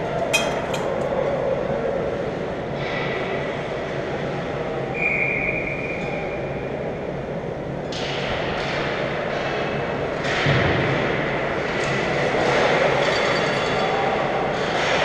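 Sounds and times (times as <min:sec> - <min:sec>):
arena hum and rumble: 0:00.0 - 0:13.1.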